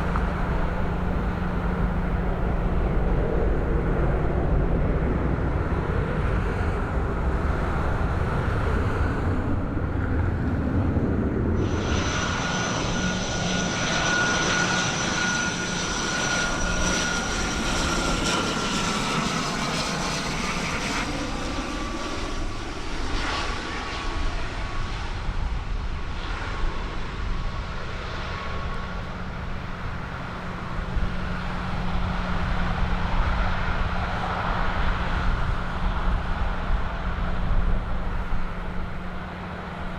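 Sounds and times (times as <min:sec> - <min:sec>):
aircraft engine whine passing: 0:00.0 - 0:39.9.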